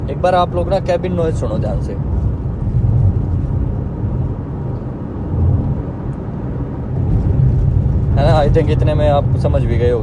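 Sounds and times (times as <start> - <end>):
road and tyre rumble in car: 0.0 - 10.0.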